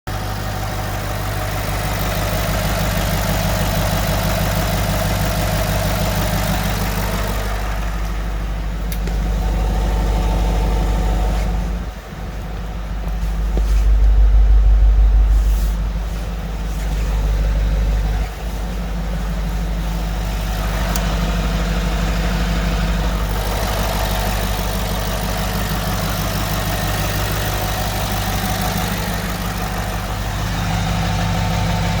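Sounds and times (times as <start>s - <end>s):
diesel engine idling: 0.1s - 32.0s.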